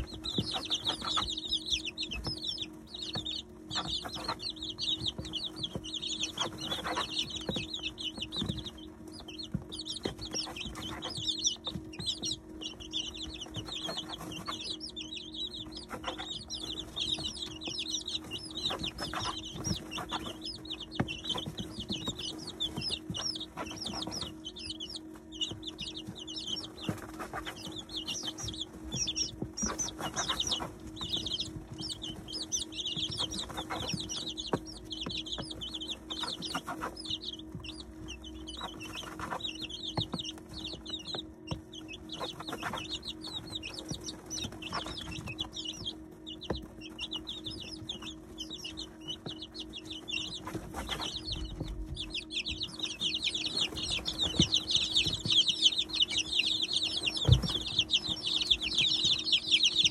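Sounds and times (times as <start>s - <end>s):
chicks peeping: 0.0s - 59.9s
steady low hum: 0.0s - 59.9s.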